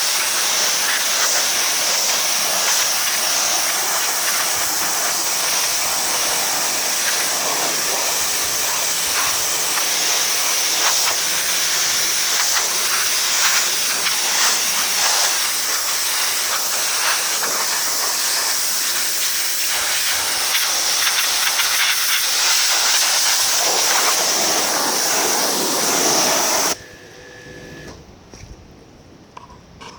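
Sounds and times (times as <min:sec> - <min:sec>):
pressure washer spraying: 0:00.0 - 0:26.8.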